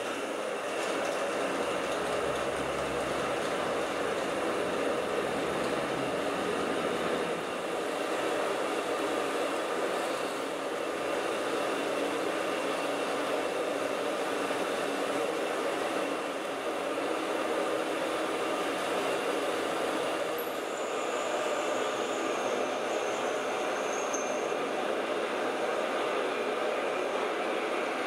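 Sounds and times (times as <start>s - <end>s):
faint high whine: 0.0s - 28.0s.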